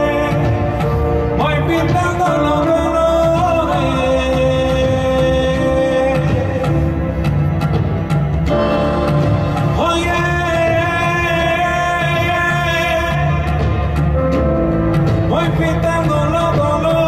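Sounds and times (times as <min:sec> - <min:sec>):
live band playing slow song: 0:00.0 - 0:17.0
low bass: 0:00.0 - 0:17.0.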